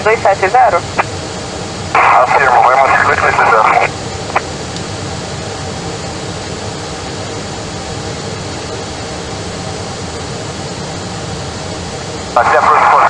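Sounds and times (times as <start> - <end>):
airliner cabin noise: 0.0 - 13.0.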